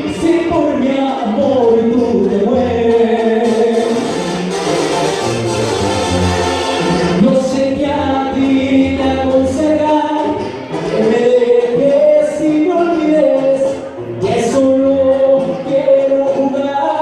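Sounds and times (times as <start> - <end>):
man singing: 0.0 - 4.9, 6.8 - 17.0
backing track with steady bass: 0.0 - 17.0.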